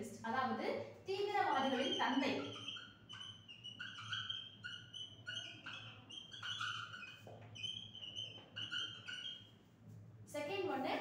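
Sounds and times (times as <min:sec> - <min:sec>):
marker squeaking on whiteboard: 0:01.1 - 0:10.0.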